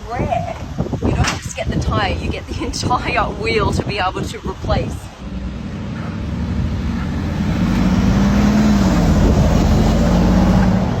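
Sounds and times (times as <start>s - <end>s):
vehicle engine humming: 1.7s - 11.0s.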